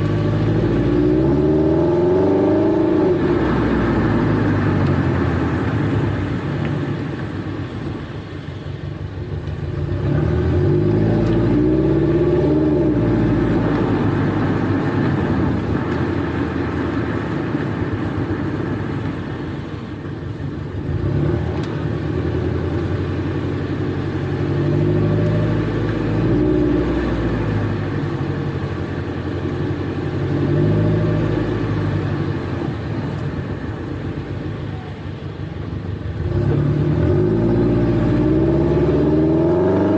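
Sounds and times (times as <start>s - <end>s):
car engine revving: 0.0s - 8.2s, 9.3s - 33.9s, 35.7s - 39.9s.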